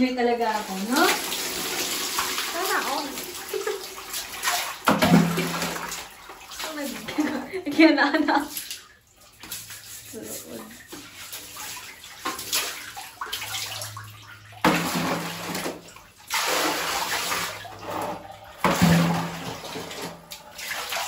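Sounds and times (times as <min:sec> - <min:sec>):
running and dripping water: 0:00.0 - 0:21.0
loud water splashes: 0:00.4 - 0:07.4, 0:09.6 - 0:21.0.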